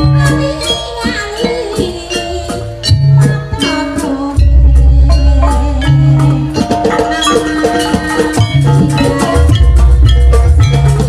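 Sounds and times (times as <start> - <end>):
drums and percussion: 0.0 - 11.0
metallophones struck with mallets: 0.0 - 11.0.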